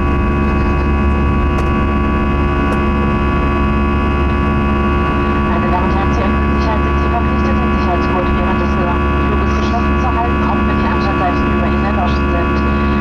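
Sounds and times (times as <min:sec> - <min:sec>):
jet engine buzzsaw drone: 0:00.0 - 0:13.0.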